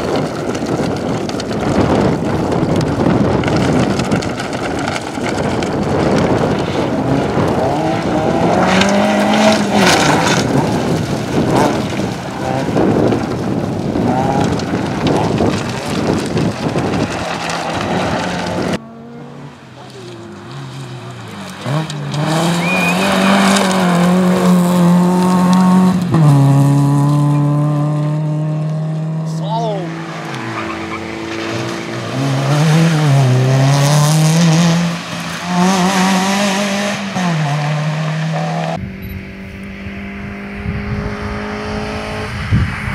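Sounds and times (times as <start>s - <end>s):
distant car engine revving: 0.0s - 42.9s
rally car engine on gravel: 0.0s - 42.9s.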